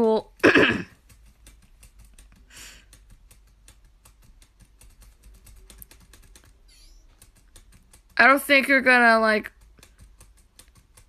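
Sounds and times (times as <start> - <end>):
faint keyboard typing: 0.0 - 11.0.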